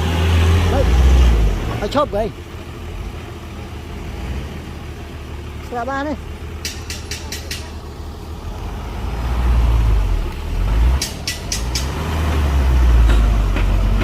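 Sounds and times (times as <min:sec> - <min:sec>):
heavy diesel engine rumbling: 0:00.0 - 0:14.0.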